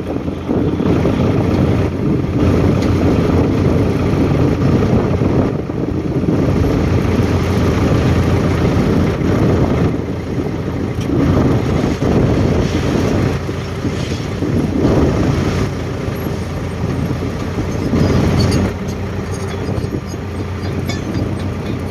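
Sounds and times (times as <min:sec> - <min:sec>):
heavy vehicle engine running: 0:00.0 - 0:21.9
wind buffeting microphone: 0:00.0 - 0:21.9.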